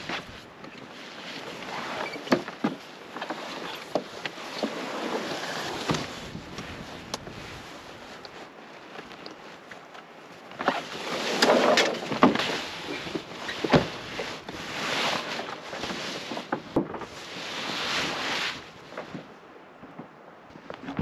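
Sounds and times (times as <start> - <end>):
nylon walls rustling: 0.0 - 21.0.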